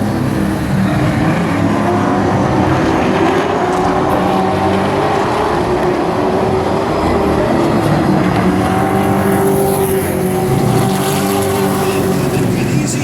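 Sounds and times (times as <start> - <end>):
race truck engines droning: 0.0 - 13.0.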